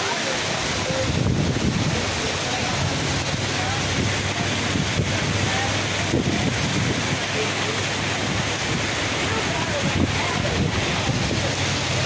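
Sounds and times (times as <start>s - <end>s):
heavy rain on water: 0.0s - 12.0s
wind rumbling on microphone: 0.6s - 12.0s.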